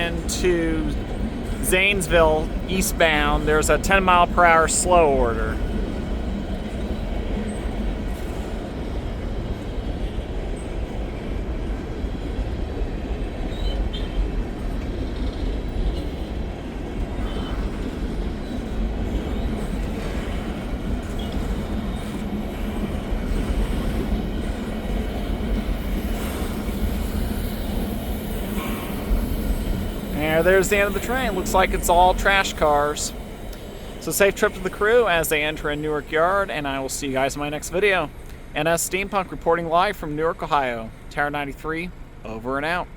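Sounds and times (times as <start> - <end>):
freight train wheels rumbling on rails: 0.0 - 42.9.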